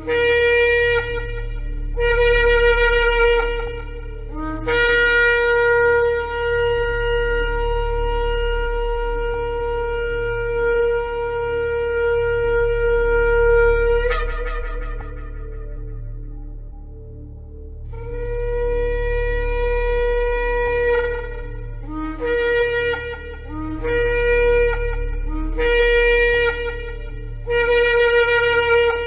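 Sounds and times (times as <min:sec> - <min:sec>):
shofar blasts: 0:00.0 - 0:16.9, 0:17.9 - 0:29.0
low hum: 0:00.0 - 0:29.0.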